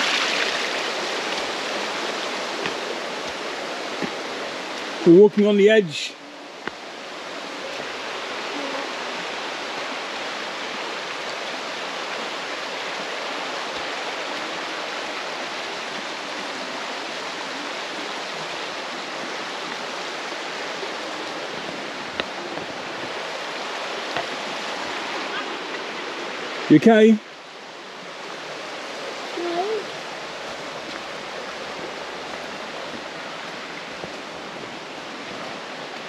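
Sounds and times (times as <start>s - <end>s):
river rushing over rapids: 0.0s - 36.0s.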